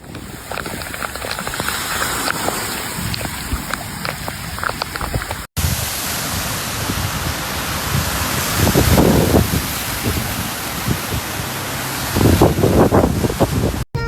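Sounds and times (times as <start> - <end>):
raindrops ticking over hiss: 0.0 - 13.5
heavy rain rushing: 0.0 - 13.8.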